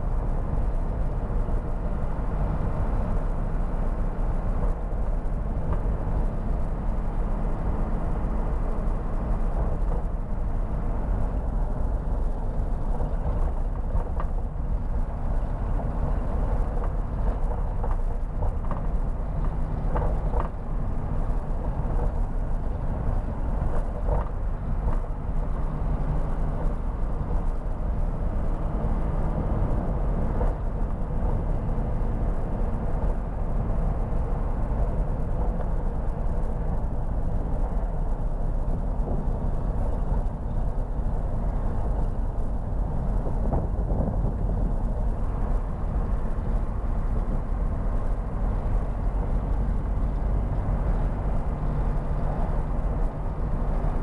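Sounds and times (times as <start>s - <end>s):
road and tyre noise: 0.0s - 54.0s
truck diesel engine drone: 0.0s - 54.0s.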